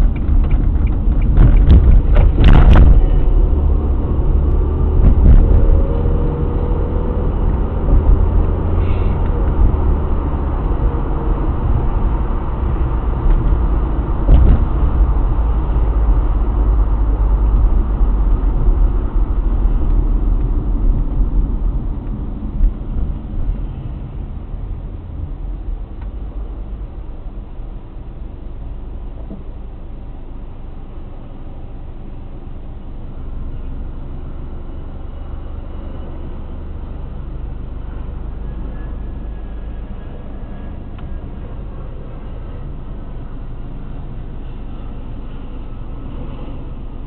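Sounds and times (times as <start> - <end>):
car road and engine rumble: 0.0 - 47.0.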